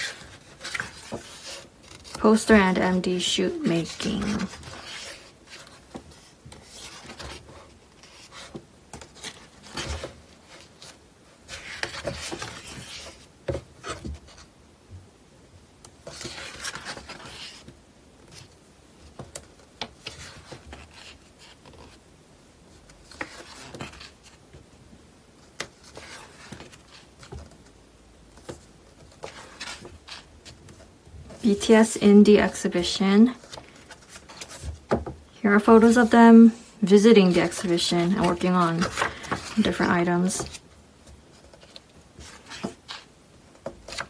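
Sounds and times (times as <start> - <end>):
book pages turning: 0.0 - 14.5, 16.0 - 22.0, 22.8 - 24.5, 25.4 - 27.7, 28.3 - 36.4, 37.2 - 44.0.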